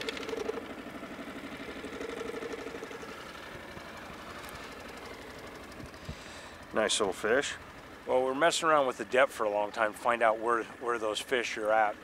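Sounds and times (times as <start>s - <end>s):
outboard motor putter: 0.0s - 12.0s.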